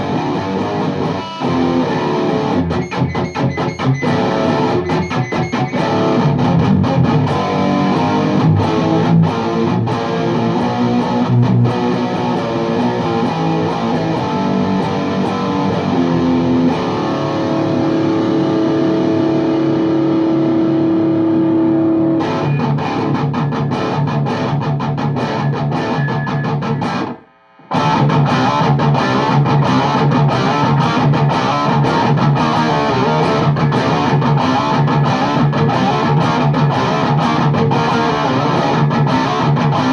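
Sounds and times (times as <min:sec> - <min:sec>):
distorted electric guitar riffing: 0:00.0 - 0:39.9.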